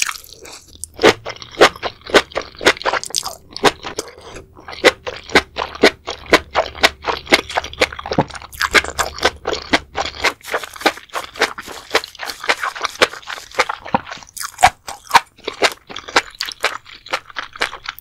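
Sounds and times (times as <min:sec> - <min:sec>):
close chewing: 0:00.0 - 0:18.0.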